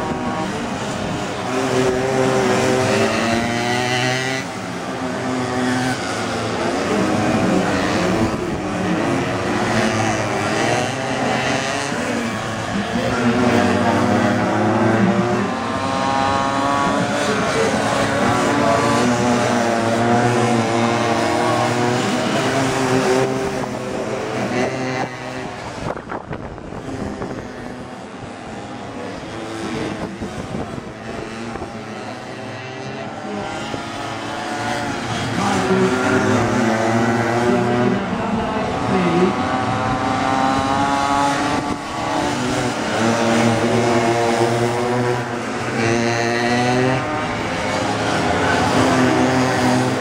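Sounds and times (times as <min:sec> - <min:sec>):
minimoto engines buzzing at high revs: 0:00.0 - 0:50.0.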